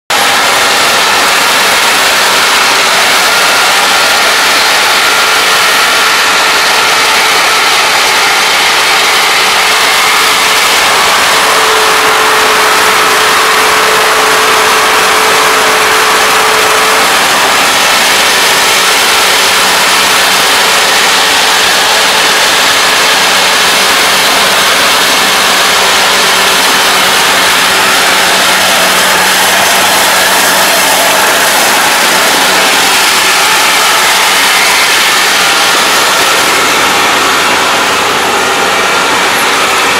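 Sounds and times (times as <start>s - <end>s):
combine harvester running: 0.1s - 39.9s
steady whine: 0.1s - 39.9s.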